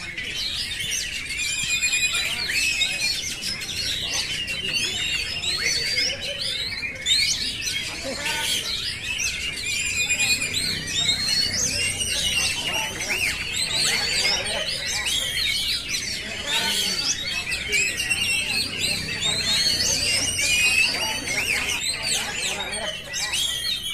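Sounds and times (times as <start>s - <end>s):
magpie-robin singing: 0.0s - 23.9s.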